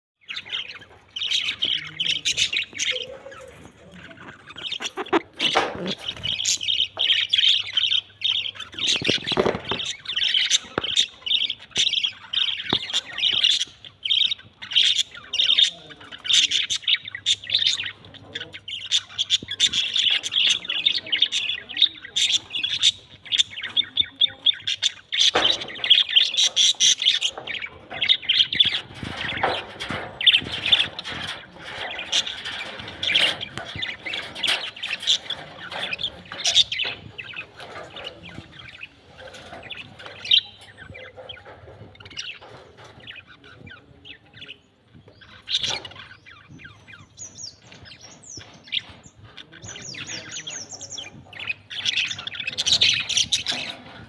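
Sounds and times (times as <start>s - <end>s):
budgerigars chirping: 0.2s - 54.0s.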